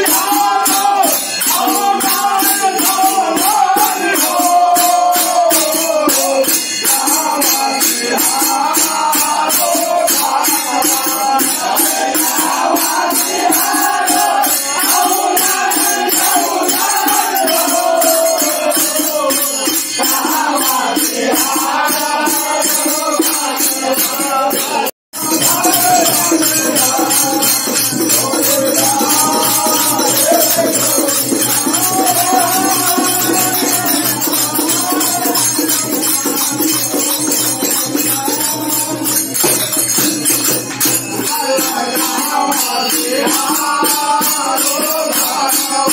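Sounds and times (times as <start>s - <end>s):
men singing folk song: 0.0s - 39.5s, 41.1s - 45.9s
jingling hand percussion: 0.0s - 45.9s.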